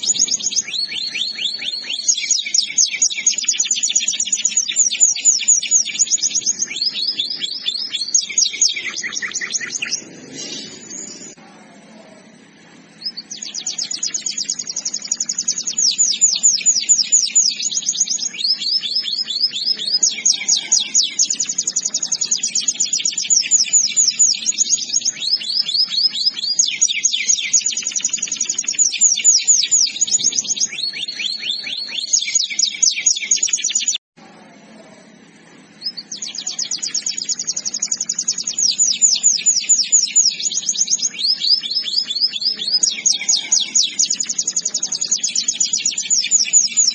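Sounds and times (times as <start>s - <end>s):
canary singing trills: 0.0s - 34.0s, 35.0s - 46.9s.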